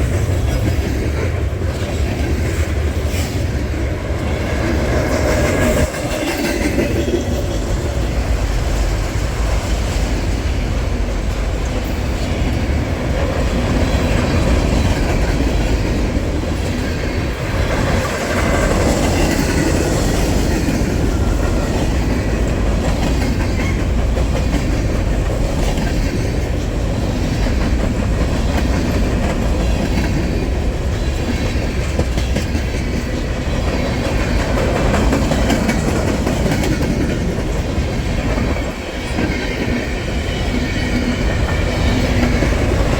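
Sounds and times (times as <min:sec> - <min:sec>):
freight train rumbling: 0:00.0 - 0:42.9
wheels clacking over rail joints: 0:00.0 - 0:42.9.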